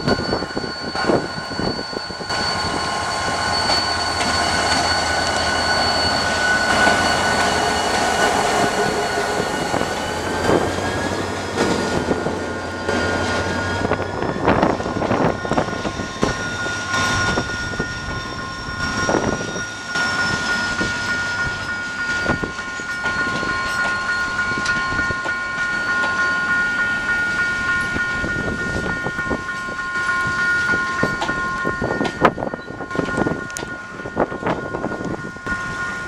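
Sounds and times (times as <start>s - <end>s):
high ringing tones: 0.0s - 36.0s
train rumbling: 0.0s - 36.0s
train wheel clacks: 0.0s - 36.0s.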